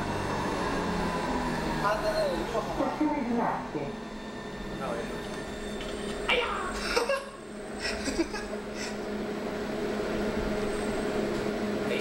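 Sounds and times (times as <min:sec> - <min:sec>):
metro train humming in tunnel: 0:00.0 - 0:12.0.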